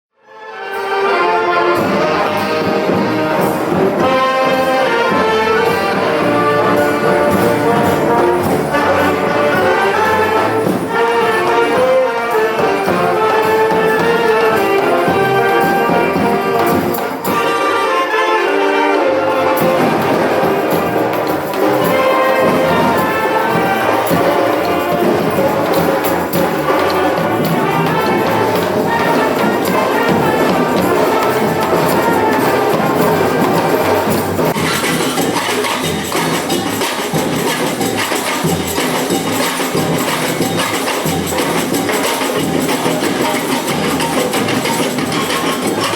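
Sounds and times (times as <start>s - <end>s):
brass band playing: 0.2s - 45.9s.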